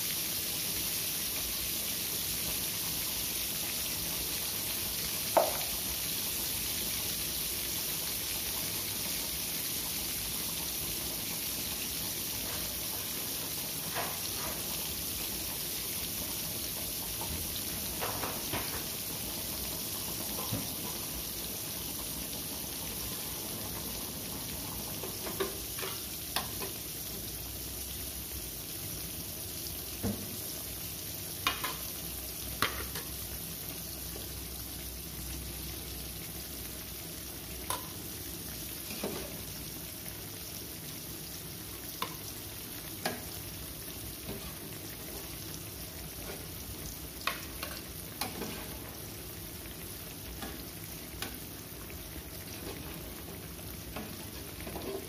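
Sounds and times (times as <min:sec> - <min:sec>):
oil sizzling: 0:00.0 - 0:55.0.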